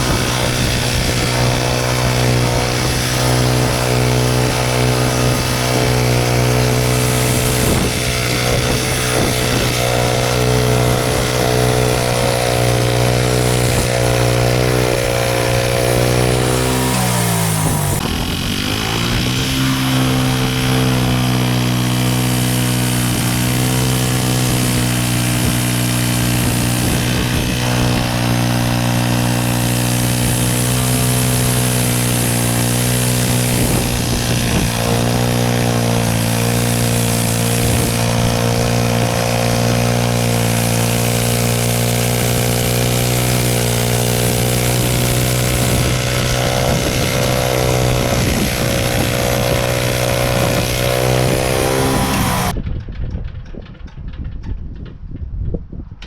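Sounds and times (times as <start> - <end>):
band blade sawing log: 0.0 - 52.6
sawmill engine running: 0.0 - 52.6.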